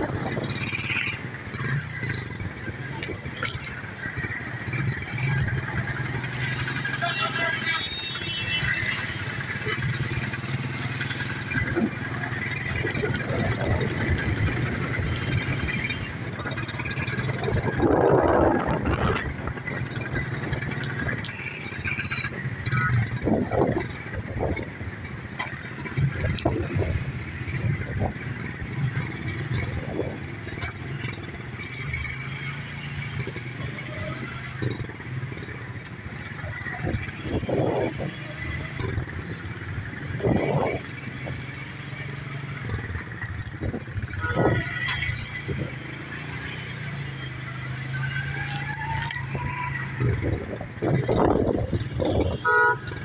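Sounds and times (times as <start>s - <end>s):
motorcycle engine drone: 0.0s - 53.0s
traffic of motorcycles and cars: 0.0s - 53.0s.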